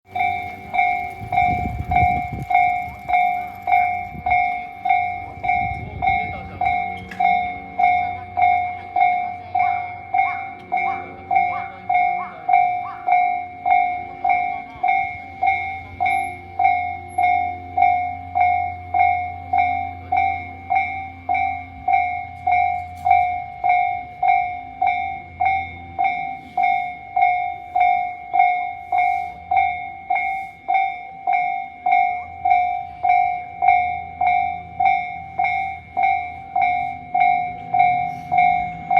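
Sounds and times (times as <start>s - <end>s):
level crossing warning bell: 0.1s - 38.9s.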